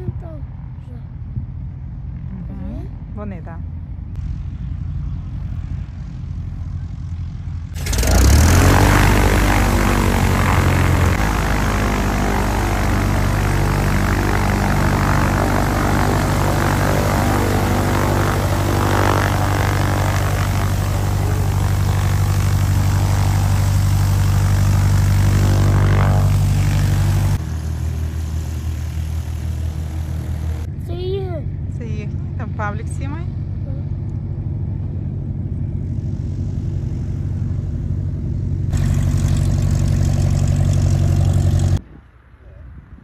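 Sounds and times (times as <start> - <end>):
propeller airplane engine drone: 0.0 - 42.6.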